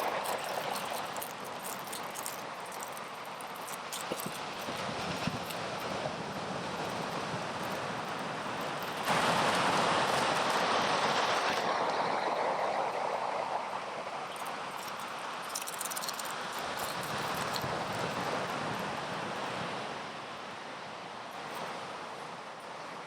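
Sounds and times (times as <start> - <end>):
ocean surf: 0.0 - 15.5, 16.1 - 23.0
wind: 0.0 - 23.0.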